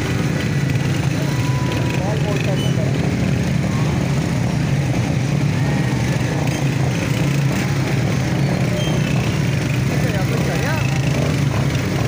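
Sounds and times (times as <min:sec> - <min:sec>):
small motorcycle engines running: 0:00.0 - 0:12.0.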